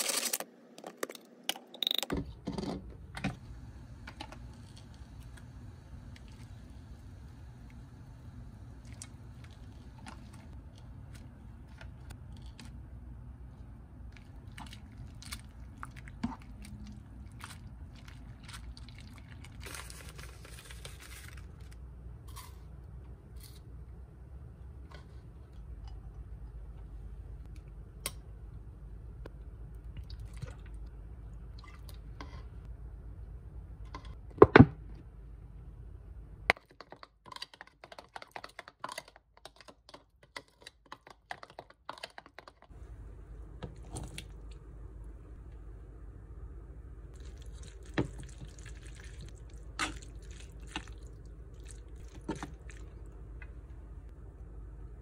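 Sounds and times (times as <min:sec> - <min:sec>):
low steady hum: 0:02.0 - 0:36.6, 0:42.7 - 0:55.0.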